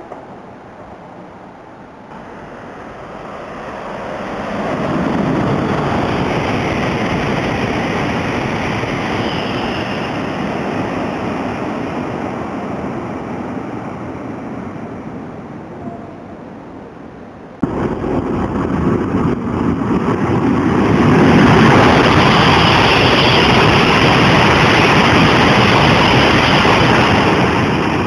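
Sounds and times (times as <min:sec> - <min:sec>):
high-speed train passing: 0:00.0 - 0:28.0.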